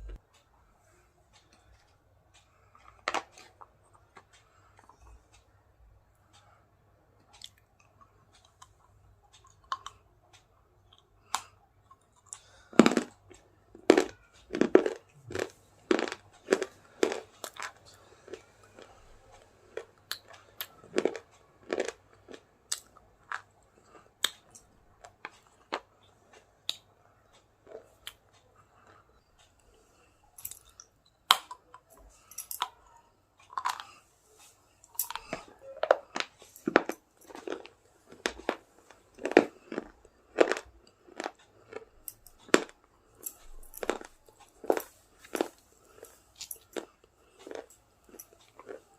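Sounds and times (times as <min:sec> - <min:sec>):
person chewing crunchy food: 0:00.0 - 0:00.2, 0:02.8 - 0:05.0, 0:07.3 - 0:10.0, 0:11.2 - 0:32.8, 0:33.4 - 0:48.9.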